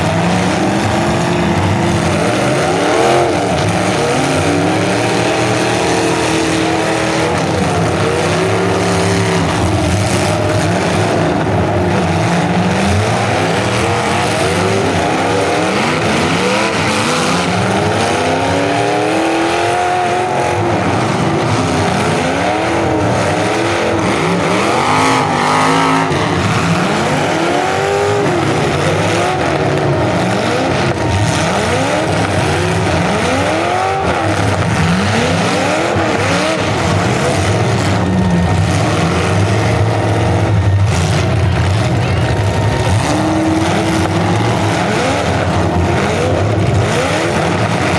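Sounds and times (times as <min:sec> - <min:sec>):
car engines revving hard: 0:00.0 - 0:47.9.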